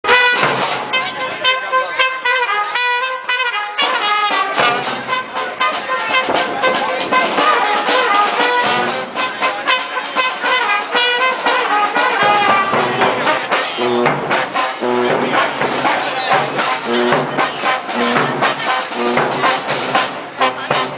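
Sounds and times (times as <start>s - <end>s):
brass band playing: 0.0s - 20.9s.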